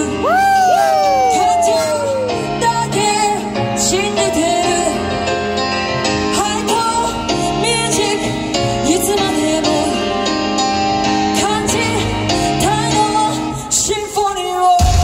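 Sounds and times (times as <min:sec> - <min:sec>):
amplified backing track: 0:00.0 - 0:15.0.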